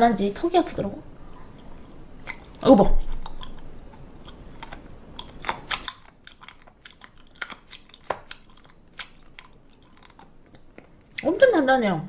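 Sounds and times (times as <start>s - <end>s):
crisp crunches of chewing: 1.2s - 11.3s.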